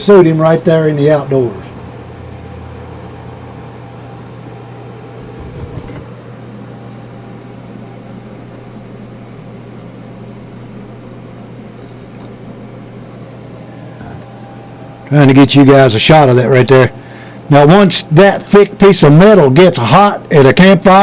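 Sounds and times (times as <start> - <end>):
forge blower humming: 0.0 - 21.0.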